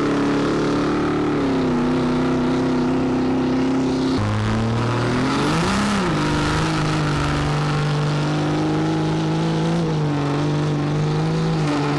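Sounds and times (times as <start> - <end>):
diesel truck engine revving: 0.0 - 11.9.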